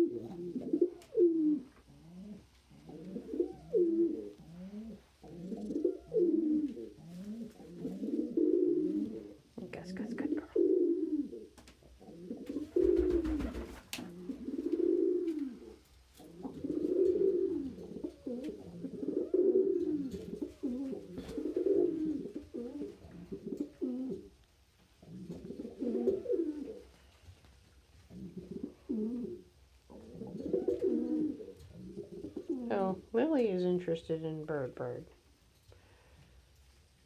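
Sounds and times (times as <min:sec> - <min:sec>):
pigeon cooing: 0:00.0 - 0:27.4, 0:28.0 - 0:33.2.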